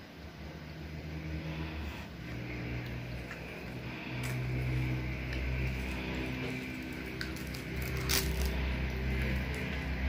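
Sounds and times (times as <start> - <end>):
low motor rumble: 0.0 - 10.0.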